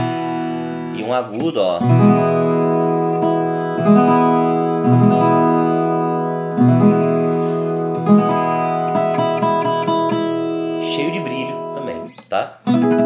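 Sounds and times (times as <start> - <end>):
guitar chords strummed: 0.0 - 13.0.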